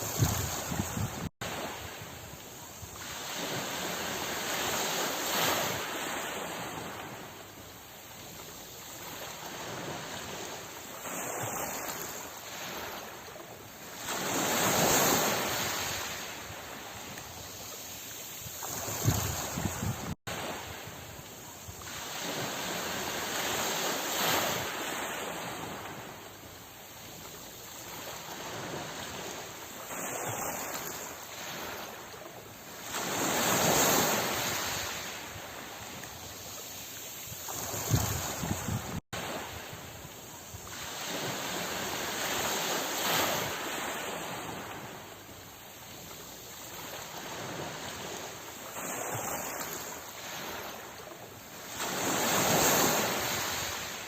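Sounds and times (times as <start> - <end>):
sea waves washing ashore: 0.0 - 54.0.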